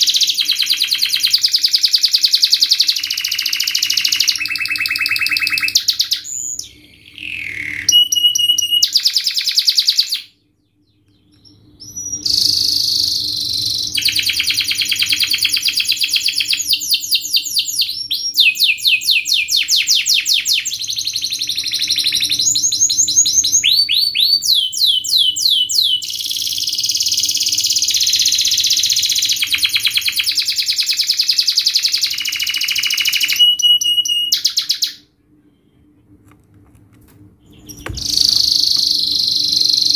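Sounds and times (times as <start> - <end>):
canary singing trills: 0.0 - 35.1, 37.4 - 39.9.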